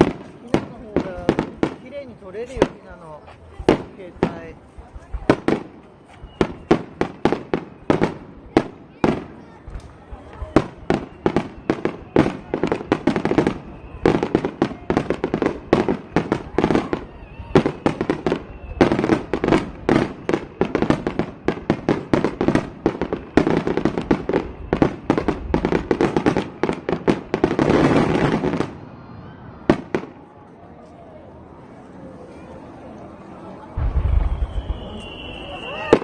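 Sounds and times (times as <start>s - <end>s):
fireworks bangs: 0.0s - 30.3s, 33.7s - 36.0s.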